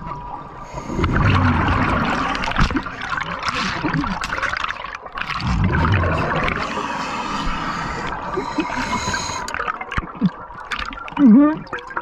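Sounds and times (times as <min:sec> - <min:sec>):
underwater diver bubbles: 0:00.0 - 0:12.0.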